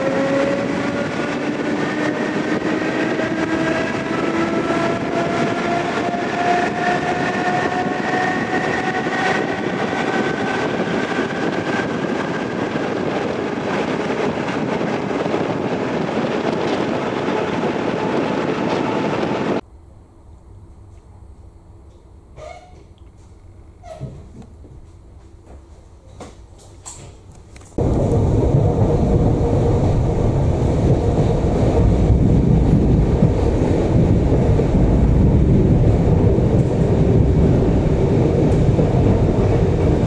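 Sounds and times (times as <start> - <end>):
train rumble and wheel noise: 0.0 - 40.0.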